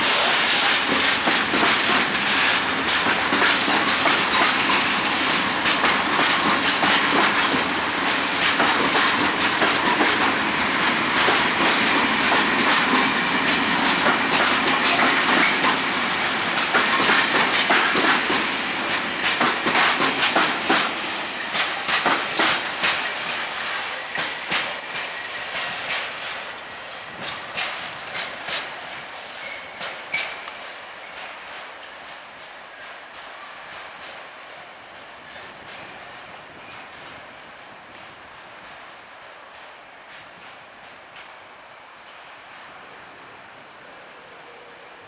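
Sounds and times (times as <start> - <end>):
train wheels clicking over rail joints: 0.0 - 42.8.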